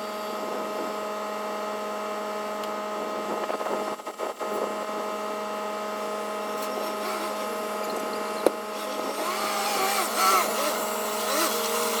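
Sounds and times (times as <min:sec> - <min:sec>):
forklift mechanical hum: 0:00.0 - 0:12.0.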